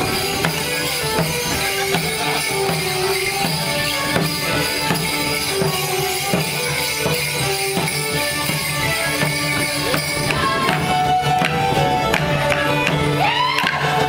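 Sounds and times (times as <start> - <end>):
fiddles playing folk dance tune: 0.0 - 14.0
steady percussion: 0.0 - 14.0.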